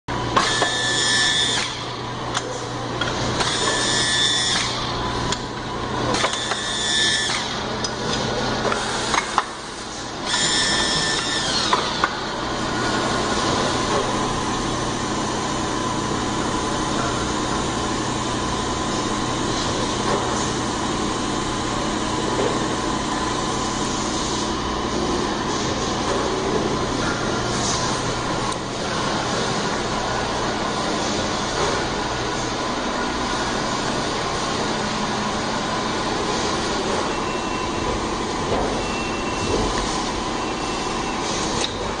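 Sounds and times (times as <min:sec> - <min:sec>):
steady machine hum: 0:00.1 - 0:42.0
machine motor whirring: 0:00.3 - 0:42.0.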